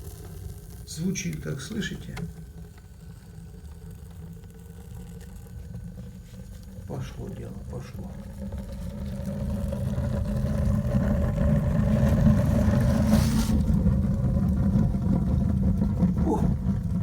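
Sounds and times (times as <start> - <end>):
low rumble of fire draught: 0.2 - 17.0.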